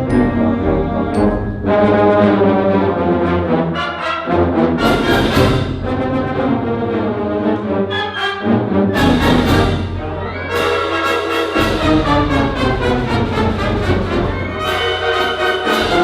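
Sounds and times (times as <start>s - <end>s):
brass section: 0.0s - 16.0s
school band playing a march: 0.0s - 16.0s.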